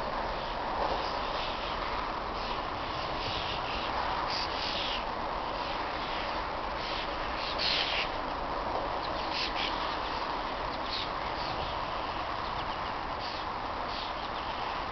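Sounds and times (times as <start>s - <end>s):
steady background hiss: 0.0s - 14.9s.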